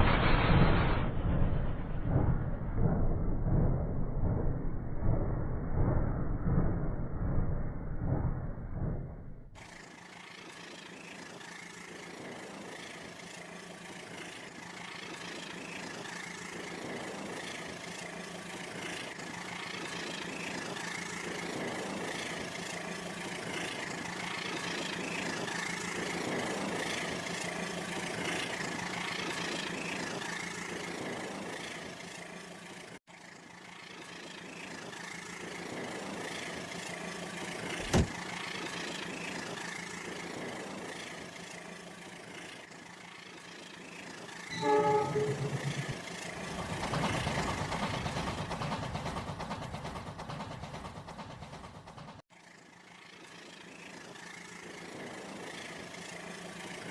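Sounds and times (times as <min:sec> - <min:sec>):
low hum: 0:00.0 - 0:32.8, 0:33.6 - 0:51.7.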